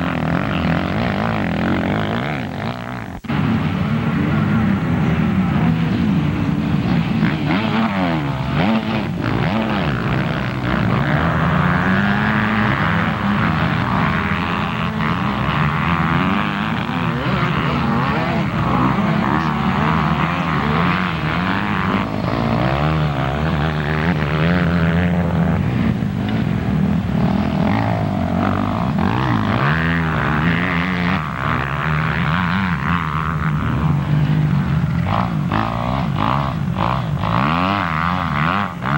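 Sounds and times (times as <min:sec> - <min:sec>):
motocross bike engines racing: 0:00.0 - 0:38.9.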